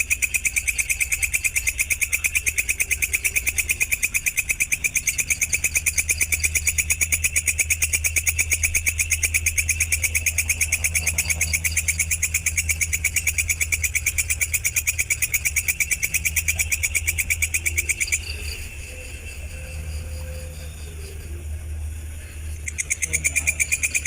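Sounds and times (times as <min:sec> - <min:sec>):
low hum: 0:00.0 - 0:24.0
songbird chirping trill: 0:00.0 - 0:24.0.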